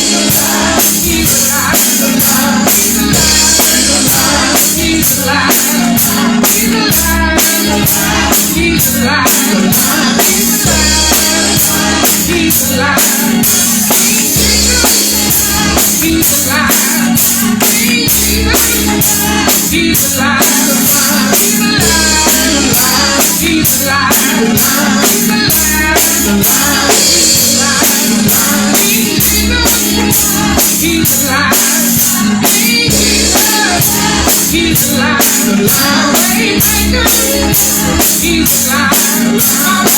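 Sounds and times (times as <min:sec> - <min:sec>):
worship music with singing: 0:00.0 - 0:39.9.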